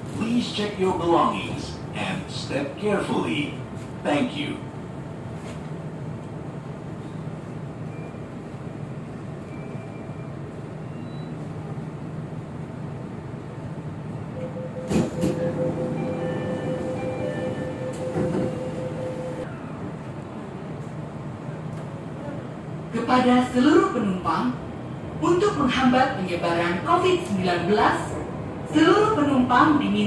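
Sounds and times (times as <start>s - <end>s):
train carriage rumble and hum: 0.0s - 30.0s.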